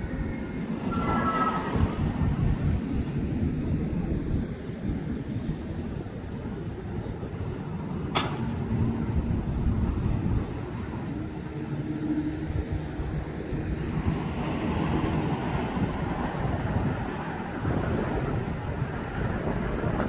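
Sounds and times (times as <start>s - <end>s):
distant jet engines rumbling: 0.0s - 20.0s
wind buffeting microphone: 0.0s - 20.0s.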